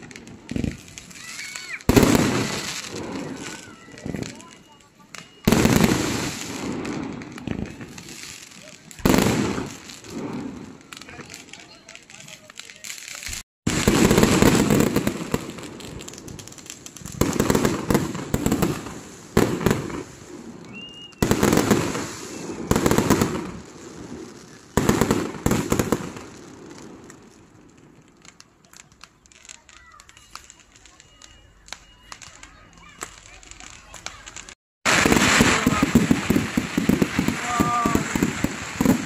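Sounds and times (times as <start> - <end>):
fireworks bursts: 0.0 - 39.0
fireworks crackling: 0.0 - 39.0.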